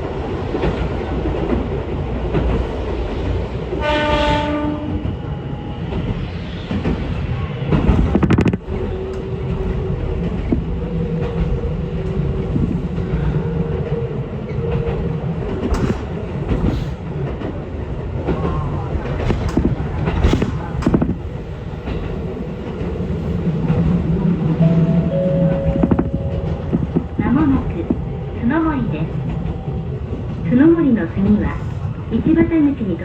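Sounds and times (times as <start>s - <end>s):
train rumble with motor tones: 0.0s - 33.0s.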